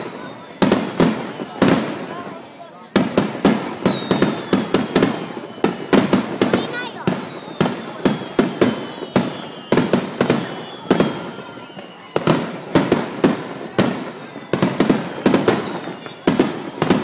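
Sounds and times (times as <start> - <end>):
falling firework whistle: 0.0 - 17.0
firework shells bursting: 0.0 - 17.0.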